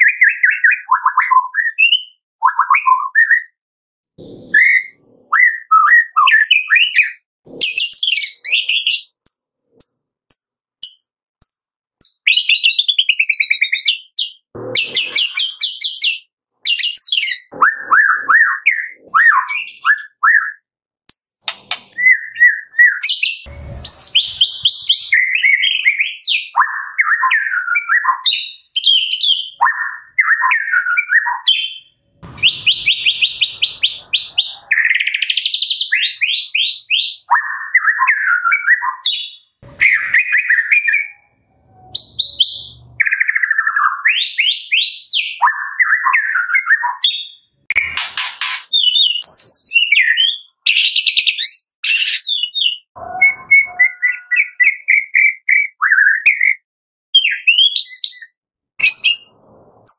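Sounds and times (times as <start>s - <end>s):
bird singing varied song: 0.0s - 3.6s, 4.6s - 59.9s.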